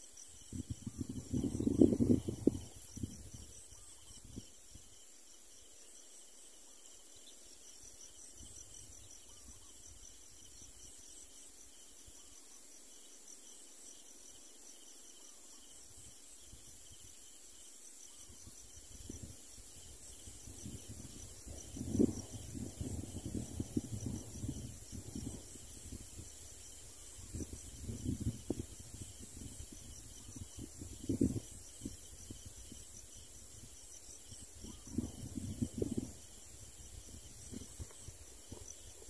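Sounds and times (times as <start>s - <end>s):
insects chorus shrill hiss: 0.0s - 39.0s.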